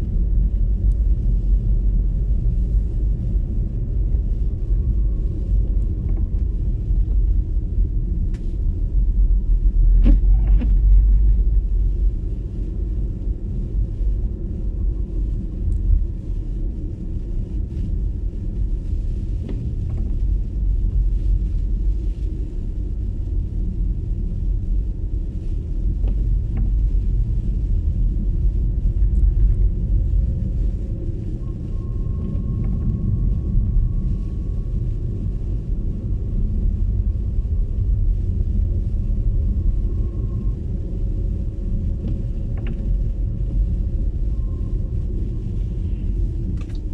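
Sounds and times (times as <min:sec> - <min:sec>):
road and tyre rumble: 0:00.0 - 0:46.9.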